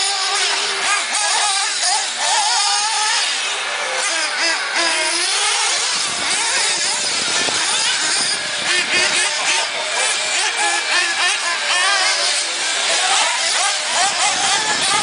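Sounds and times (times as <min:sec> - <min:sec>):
small motors whining: 0:00.0 - 0:15.0.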